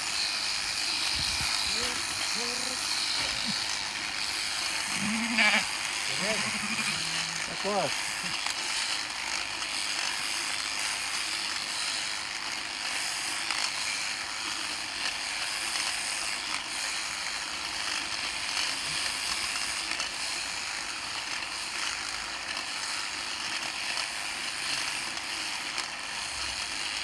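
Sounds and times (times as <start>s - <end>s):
electric shearing handpiece chattering: 0.0s - 27.0s.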